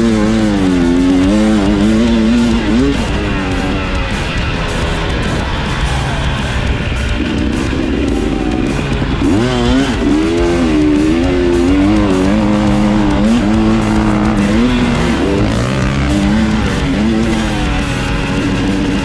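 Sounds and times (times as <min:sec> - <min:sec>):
background music: 0:00.0 - 0:19.0
motocross bike engine revving: 0:00.0 - 0:19.0.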